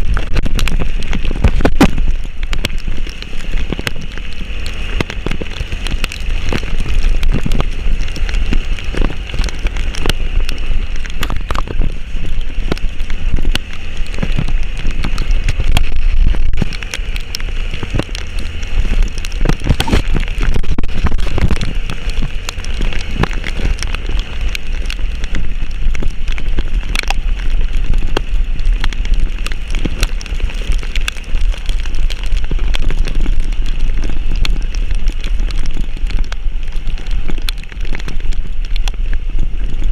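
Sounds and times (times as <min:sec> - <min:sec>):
heavy rain falling: 0:00.0 - 0:39.9
raindrops ticking on microphone: 0:00.0 - 0:39.9.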